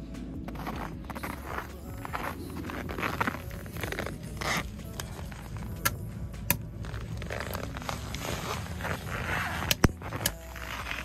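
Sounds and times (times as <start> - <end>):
footsteps on snow: 0.4 - 5.6, 6.8 - 11.0.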